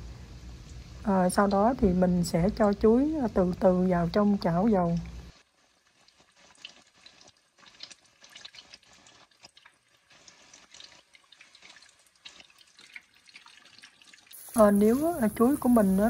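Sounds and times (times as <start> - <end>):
batter deep-frying in hot oil: 0.0 - 16.0.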